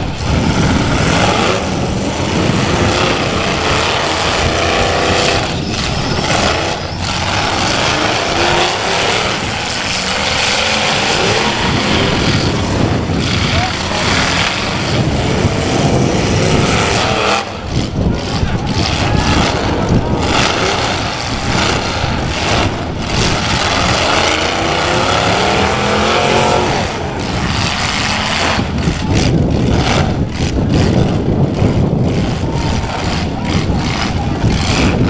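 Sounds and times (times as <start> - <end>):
car engines revving hard: 0.0 - 35.0.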